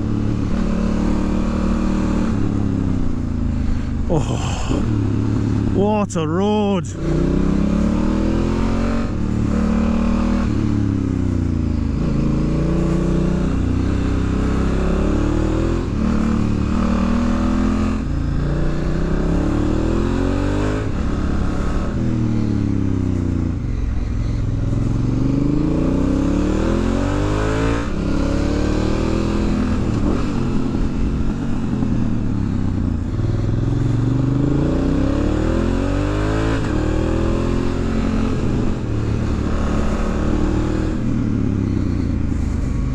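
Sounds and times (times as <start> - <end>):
motorcycle engine revving: 7.0 - 42.9.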